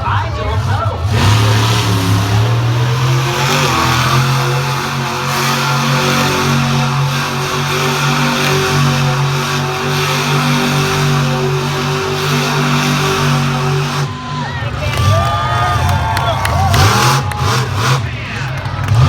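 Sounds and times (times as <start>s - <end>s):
monster truck engine at high revs: 0.0s - 19.0s.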